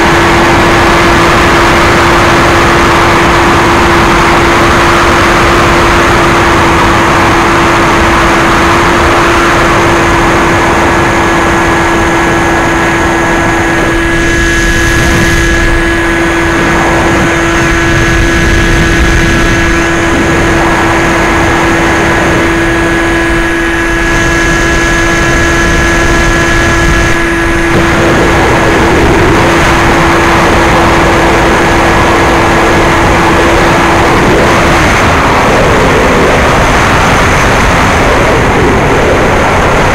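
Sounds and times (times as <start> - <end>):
air rushing over microphone: 0.0 - 39.9
electric model plane motor: 0.0 - 39.9.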